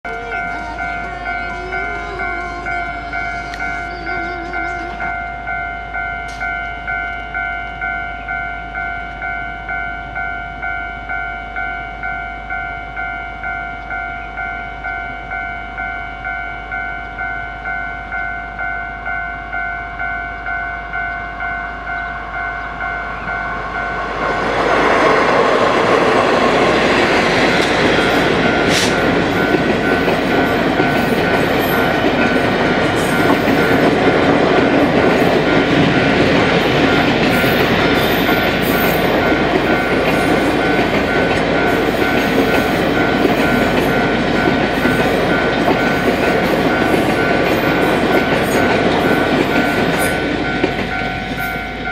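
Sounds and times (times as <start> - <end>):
level crossing warning bell: 0.0 - 51.9
train wheels on rails: 0.1 - 51.9.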